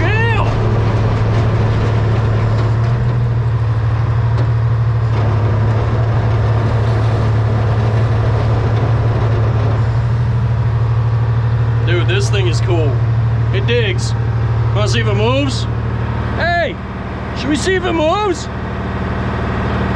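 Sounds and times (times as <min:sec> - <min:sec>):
excavator diesel engine droning: 0:00.0 - 0:19.9.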